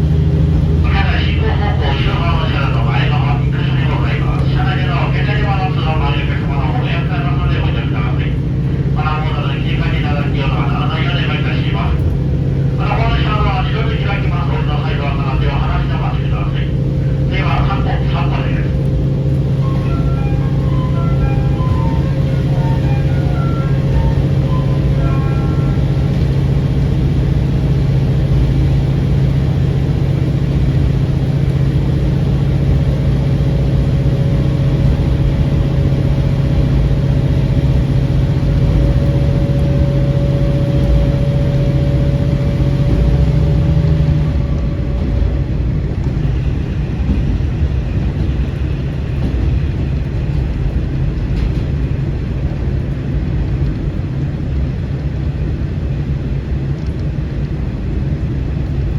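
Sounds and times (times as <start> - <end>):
diesel engine drone: 0.0 - 58.9
wheels rumbling on rails: 0.0 - 58.9.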